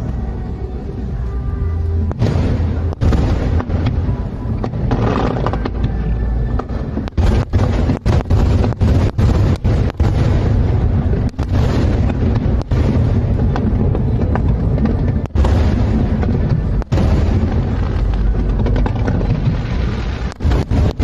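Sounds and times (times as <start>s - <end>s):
fireworks booming: 2.0s - 21.0s.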